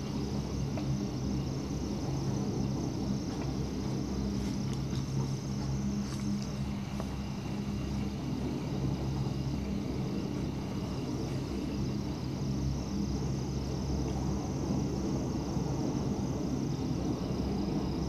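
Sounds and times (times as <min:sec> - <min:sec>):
gondola cabin hum and rumble: 0:00.0 - 0:18.0.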